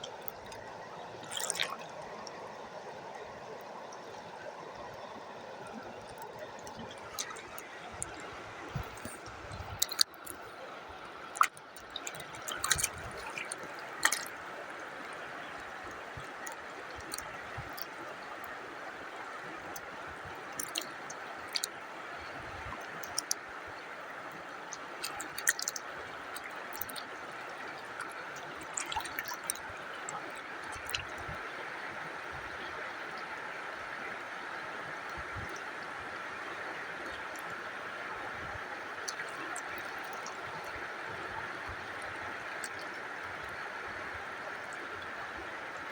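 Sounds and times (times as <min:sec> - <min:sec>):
running water rushing: 0:00.0 - 0:45.9
water drips and splashes: 0:00.0 - 0:45.9.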